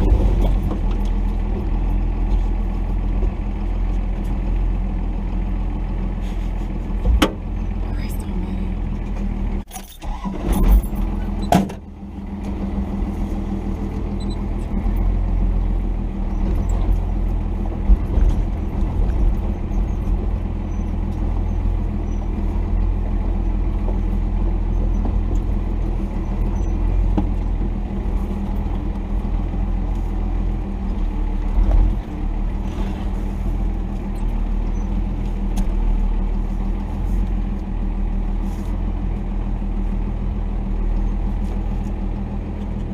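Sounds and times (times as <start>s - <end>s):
diesel engine running at low revs: 0.0s - 42.9s.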